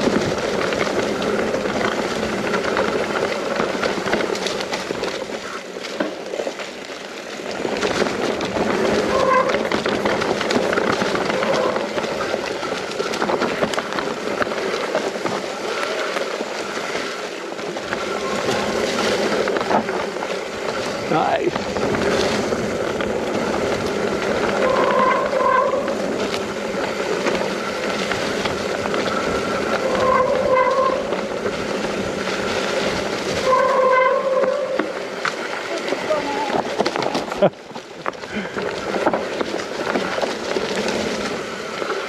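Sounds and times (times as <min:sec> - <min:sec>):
bike clattering and rattling: 0:00.0 - 0:42.0
tyres rolling over dirt and stones: 0:00.0 - 0:42.0.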